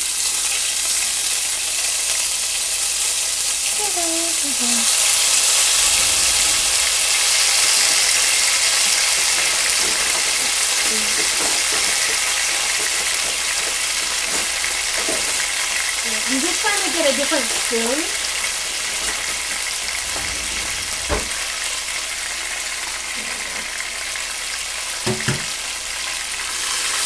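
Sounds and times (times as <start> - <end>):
garlic sizzling in hot oil: 0.0 - 27.0.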